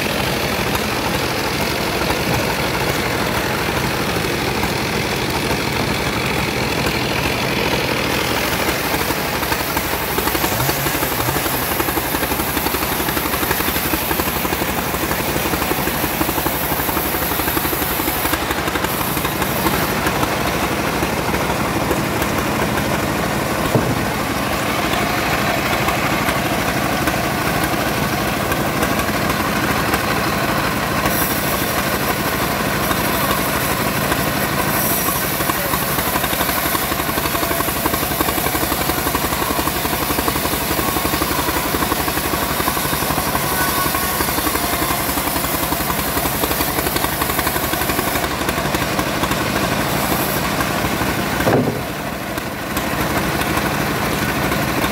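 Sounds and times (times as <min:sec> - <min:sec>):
bandsaw motor drone: 0:00.0 - 0:54.9
saw blade cutting wood: 0:00.0 - 0:54.9.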